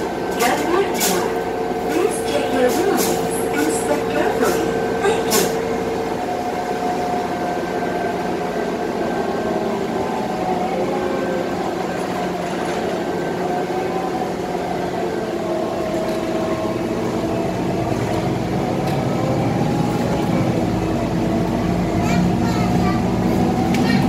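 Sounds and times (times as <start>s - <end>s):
bus engine and drivetrain drone: 0.0s - 24.0s.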